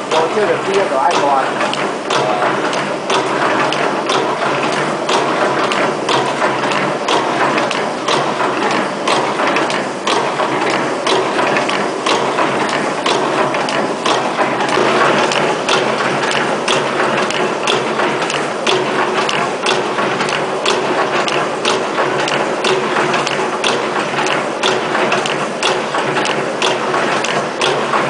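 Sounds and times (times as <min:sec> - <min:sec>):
machine mechanical clatter: 0:00.0 - 0:28.0
sharp mechanical clack: 0:00.0 - 0:28.0.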